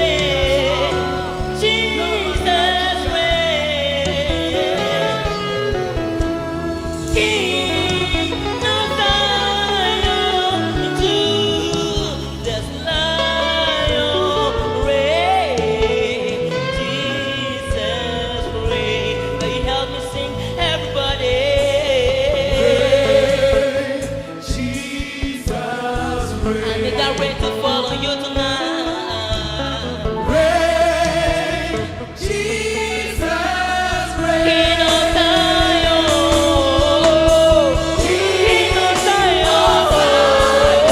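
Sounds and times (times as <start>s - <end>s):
gospel singing with band: 0.0s - 40.9s.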